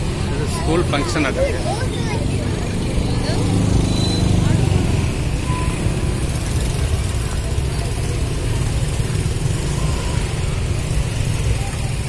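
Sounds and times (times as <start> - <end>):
engines idling in slow traffic: 0.0 - 12.0.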